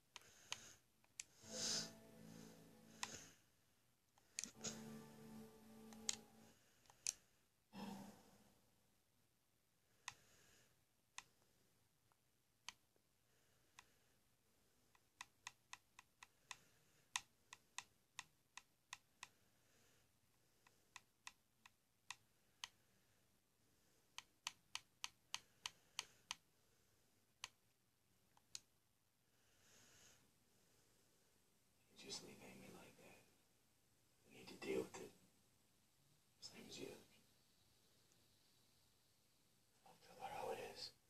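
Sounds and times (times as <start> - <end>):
faint room hush: 0.0 - 41.0.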